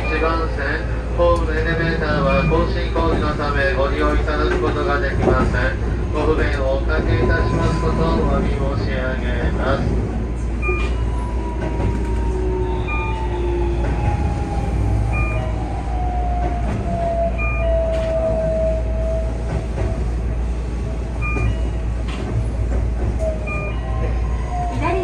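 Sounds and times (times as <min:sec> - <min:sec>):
train inverter whining: 0:00.0 - 0:25.0
wheels rumbling on rail: 0:00.0 - 0:25.0.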